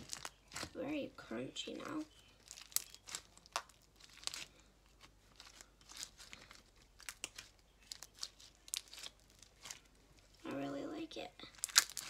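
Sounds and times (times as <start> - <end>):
crunchy slime crackling and popping: 0.0 - 0.9, 1.8 - 10.5, 11.4 - 12.0.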